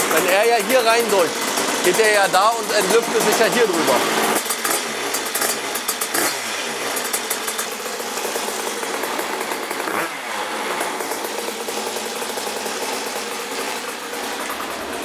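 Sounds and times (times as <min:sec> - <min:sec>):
moped engine idling: 0:00.0 - 0:15.0.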